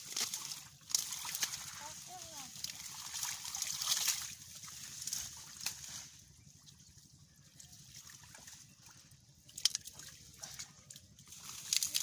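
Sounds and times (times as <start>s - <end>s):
muddy water trickling: 0.0s - 12.0s.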